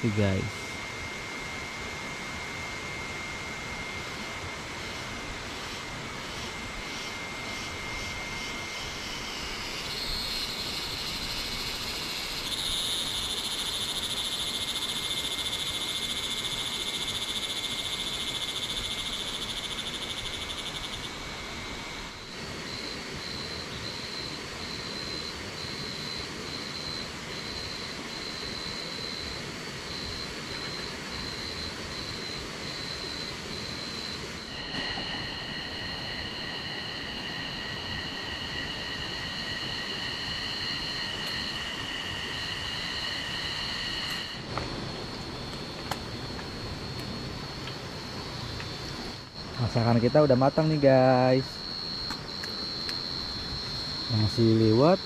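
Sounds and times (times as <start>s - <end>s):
pulsing insect call: 0.0s - 55.0s
shrill insect calls: 0.0s - 55.0s.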